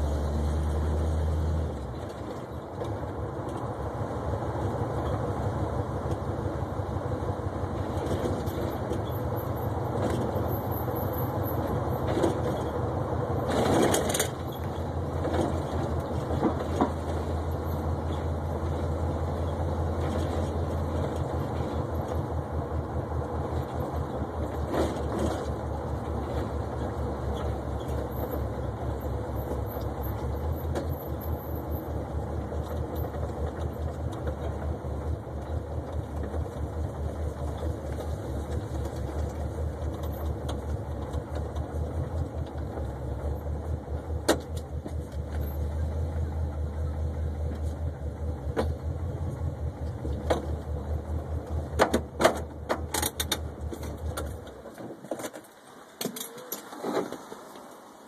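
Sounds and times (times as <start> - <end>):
car engine running: 0.0 - 54.8.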